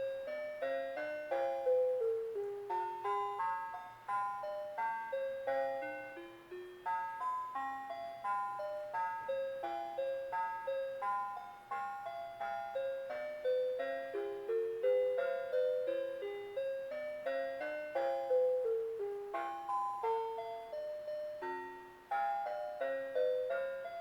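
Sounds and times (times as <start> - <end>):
chiming music box melody: 0.0 - 24.0.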